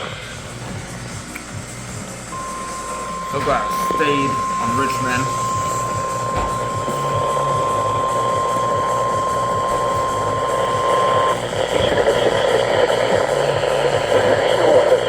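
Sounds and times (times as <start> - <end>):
radio static and pulsing hum: 0.0 - 15.0
receiver hiss: 0.0 - 15.0
steady alarm tone: 0.0 - 15.0.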